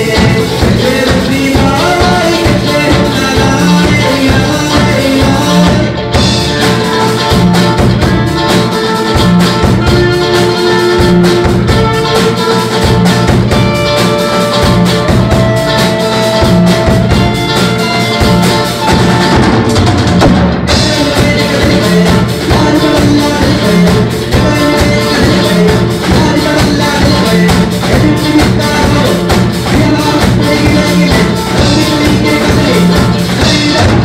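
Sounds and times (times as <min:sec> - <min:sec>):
drum kit beat: 0:00.0 - 0:34.0
electric guitars: 0:00.0 - 0:34.0.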